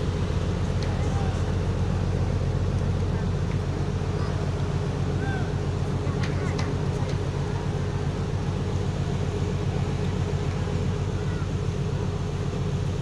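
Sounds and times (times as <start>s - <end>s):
ferry diesel engine drone: 0.0s - 13.0s.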